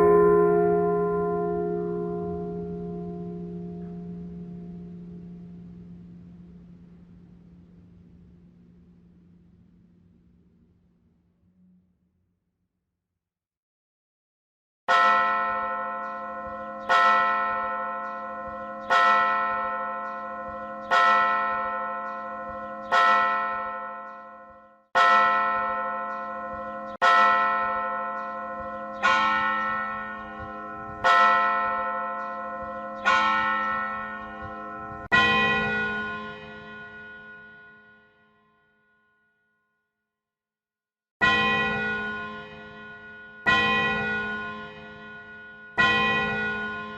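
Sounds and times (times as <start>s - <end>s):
church bell tolling: 0.0s - 8.4s, 14.9s - 39.2s, 41.2s - 46.9s.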